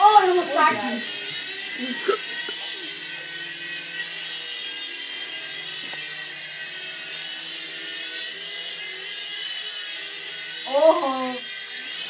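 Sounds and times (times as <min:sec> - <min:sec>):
toy helicopter rotors whirring: 0:00.0 - 0:12.0.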